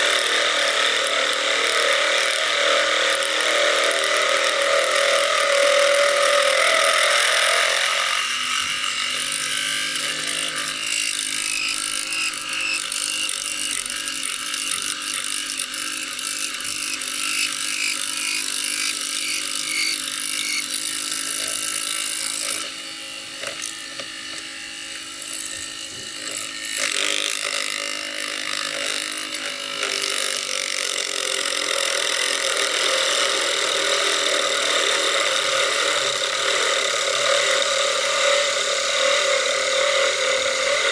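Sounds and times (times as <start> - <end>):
blade shaving plastic: 0.0 - 40.9
motor spinning lathe: 0.0 - 40.9.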